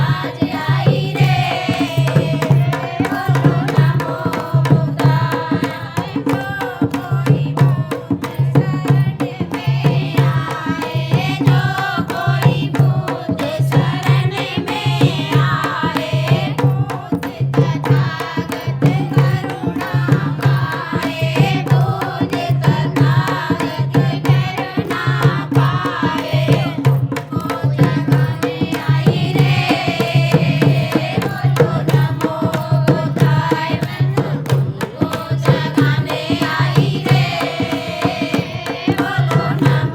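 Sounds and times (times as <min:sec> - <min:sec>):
devotional folk singing: 0:00.0 - 0:39.9
hand drum beat: 0:00.0 - 0:39.9.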